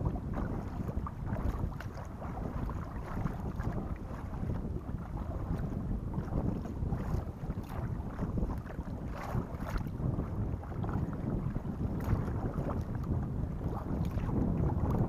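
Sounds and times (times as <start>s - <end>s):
paddle splashes: 0.0s - 15.0s
wind rumbling on microphone: 0.0s - 15.0s.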